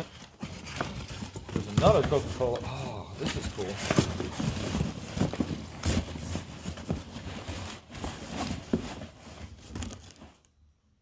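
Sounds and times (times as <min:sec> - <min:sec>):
cardboard and paper rustling: 0:00.0 - 0:10.6.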